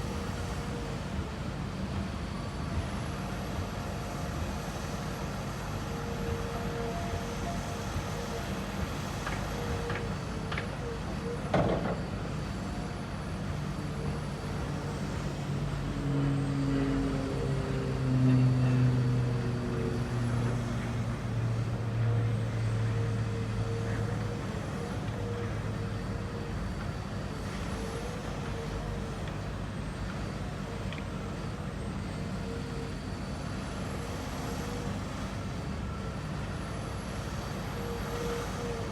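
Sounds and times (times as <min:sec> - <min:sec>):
low engine-like drone: 0:00.0 - 0:38.9
steady motor whine: 0:00.0 - 0:38.9.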